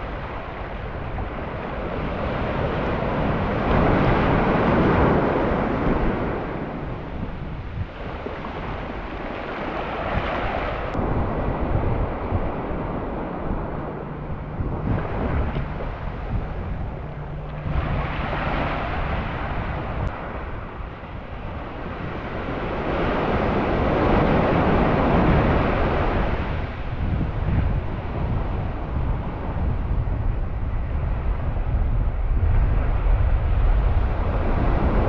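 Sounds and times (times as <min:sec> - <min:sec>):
surf washing onto beach: 0:00.0 - 0:35.0
wind buffeting microphone: 0:00.0 - 0:35.0.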